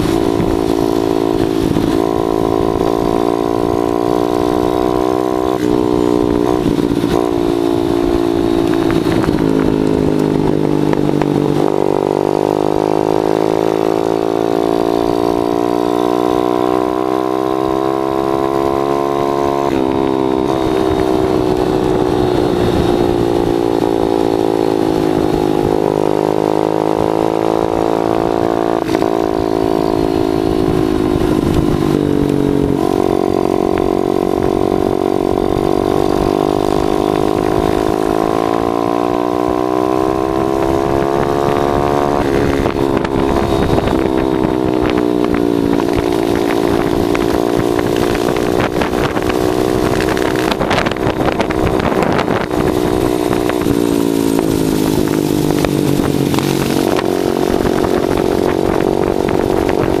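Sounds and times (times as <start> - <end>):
minibike engine revving: 0.0 - 60.0
wind noise: 0.0 - 60.0.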